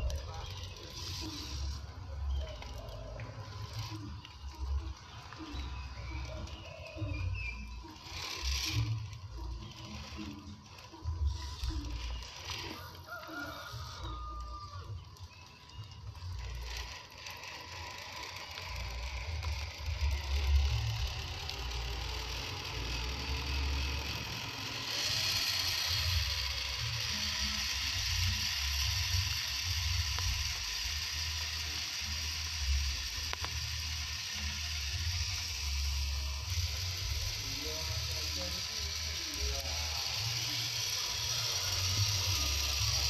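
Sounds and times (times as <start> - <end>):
toy car motor whirring: 0.0 - 43.0.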